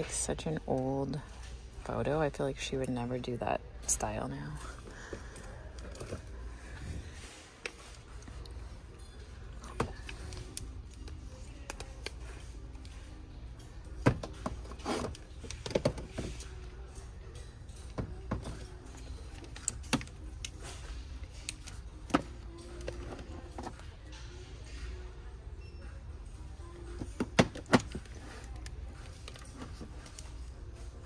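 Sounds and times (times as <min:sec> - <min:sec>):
faint store music: 0:00.0 - 0:31.0.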